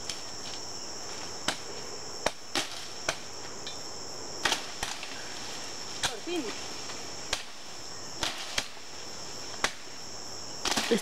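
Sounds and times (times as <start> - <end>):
jungle insects droning: 0.0 - 11.0.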